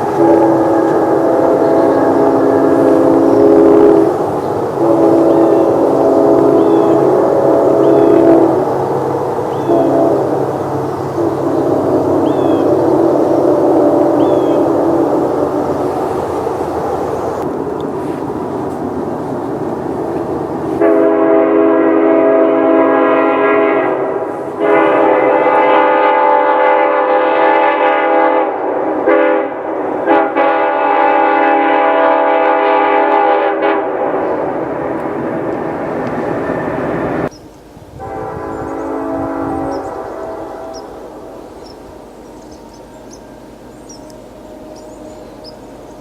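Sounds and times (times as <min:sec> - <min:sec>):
locomotive air horn chord: 0:00.0 - 0:18.2, 0:20.7 - 0:35.6, 0:37.9 - 0:46.0
low rumble of train: 0:00.0 - 0:46.0.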